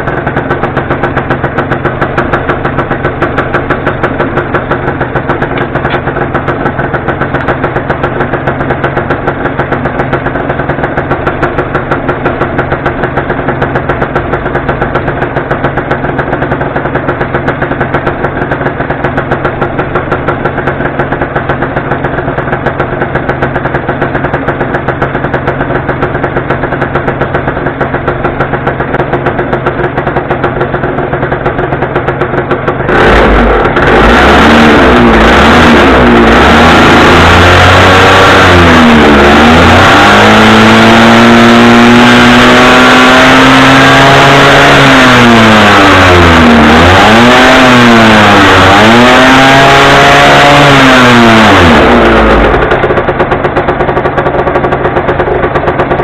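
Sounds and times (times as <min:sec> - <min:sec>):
scooter engine idling and revving: 0:00.0 - 0:56.0.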